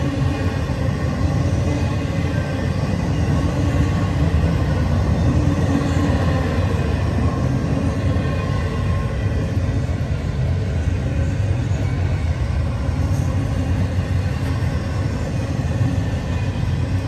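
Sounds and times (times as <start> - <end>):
steel wheels running on rails: 0.0 - 17.0.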